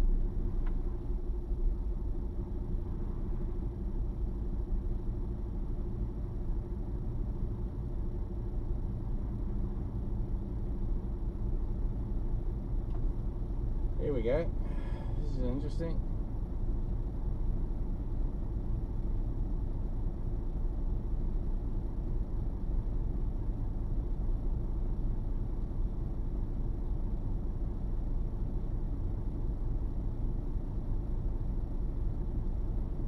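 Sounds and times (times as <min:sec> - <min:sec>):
truck engine rumble: 0:00.0 - 0:33.0.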